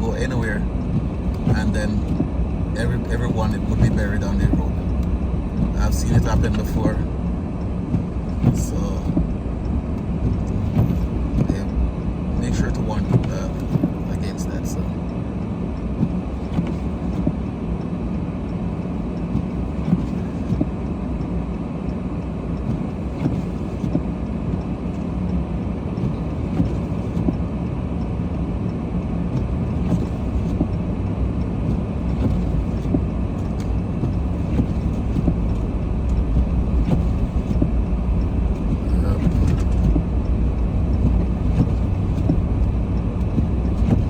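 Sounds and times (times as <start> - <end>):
car cabin engine and road noise: 0.0 - 44.0.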